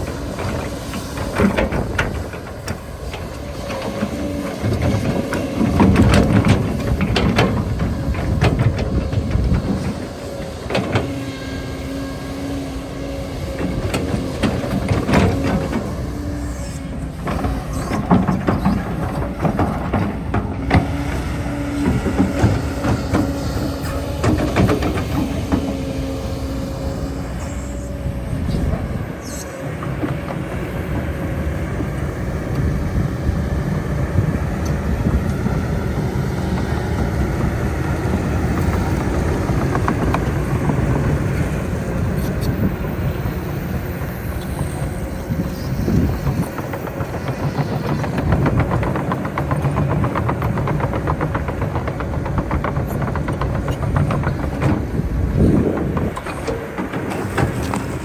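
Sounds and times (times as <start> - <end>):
construction machinery engine rumble: 0.0 - 58.0.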